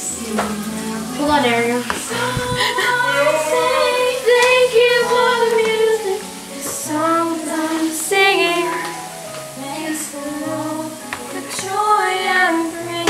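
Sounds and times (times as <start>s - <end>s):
young woman singing: 0.0s - 13.0s.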